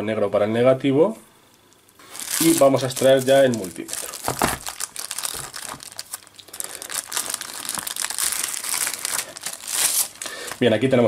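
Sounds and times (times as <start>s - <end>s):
plastic bag crinkling: 1.5s - 10.7s.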